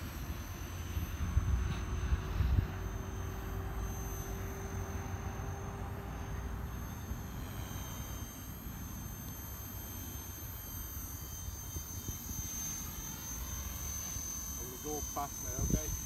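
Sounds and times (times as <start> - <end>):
rc helicopter whine: 0.0 - 16.0.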